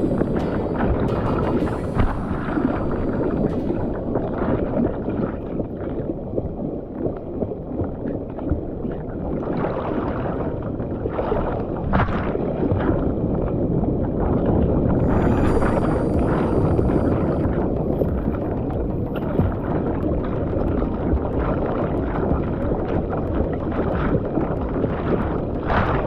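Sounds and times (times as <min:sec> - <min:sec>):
ocean water sloshing: 0:00.0 - 0:26.0
wind noise: 0:00.0 - 0:26.0.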